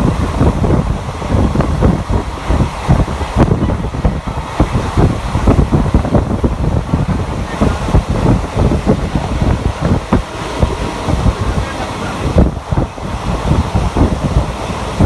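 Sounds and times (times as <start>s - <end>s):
train low rumble: 0.0s - 15.0s
wheels knocking and clattering: 0.0s - 15.0s
wind buffeting microphone: 0.0s - 15.0s.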